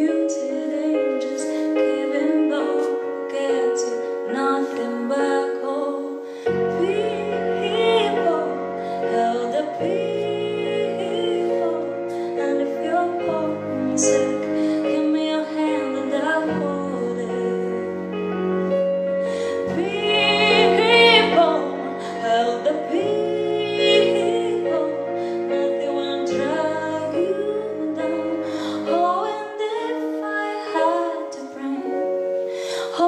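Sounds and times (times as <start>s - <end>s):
woman singing a slow ballad: 0.0s - 18.2s, 19.3s - 33.0s
piano chords: 0.0s - 33.0s.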